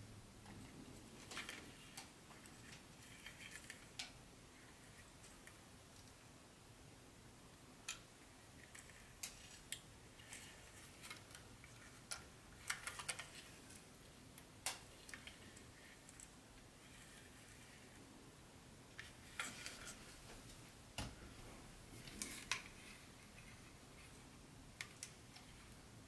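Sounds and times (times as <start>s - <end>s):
quiet low hum: 0.0s - 26.0s.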